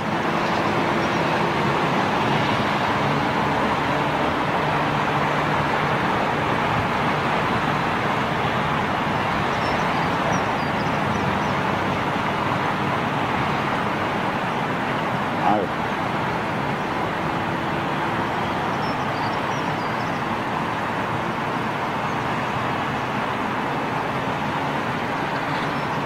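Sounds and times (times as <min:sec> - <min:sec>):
distant jet engines roaring: 0:00.0 - 0:26.0.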